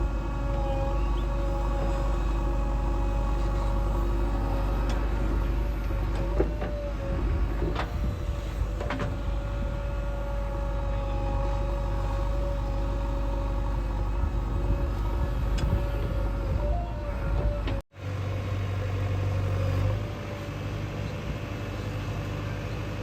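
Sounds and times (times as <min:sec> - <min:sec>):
diesel engine running: 0:00.0 - 0:23.0
engine whine: 0:00.0 - 0:23.0.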